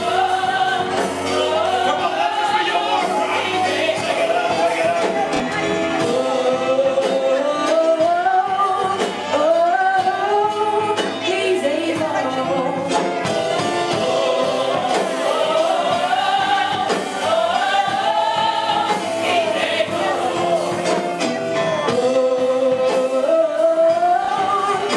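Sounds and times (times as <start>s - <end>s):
gospel singing: 0.0s - 24.9s.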